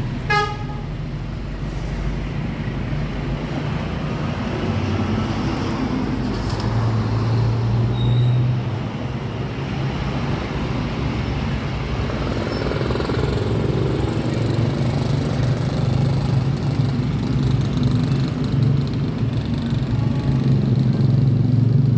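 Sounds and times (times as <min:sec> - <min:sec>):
road traffic: 0:00.0 - 0:21.9.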